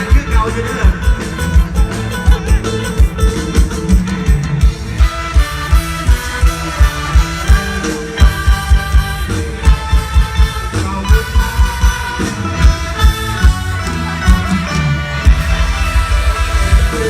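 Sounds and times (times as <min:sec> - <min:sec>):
band music over sound system: 0:00.0 - 0:17.0.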